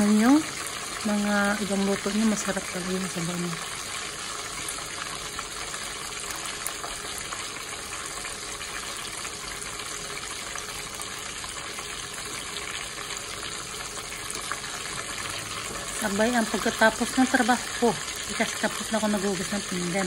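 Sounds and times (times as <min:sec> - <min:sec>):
oil sizzling with crackles: 0:00.0 - 0:20.0.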